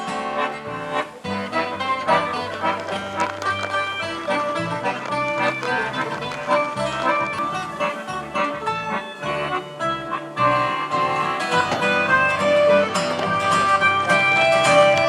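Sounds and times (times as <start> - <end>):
acoustic country band playing: 0.0 - 15.0
fiddle: 0.0 - 15.0
plucked acoustic guitar: 0.0 - 15.0.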